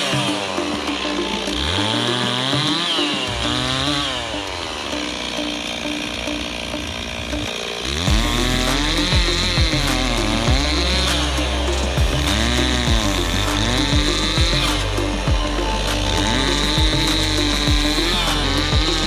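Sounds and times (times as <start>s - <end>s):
chainsaw revving: 0.0s - 19.0s.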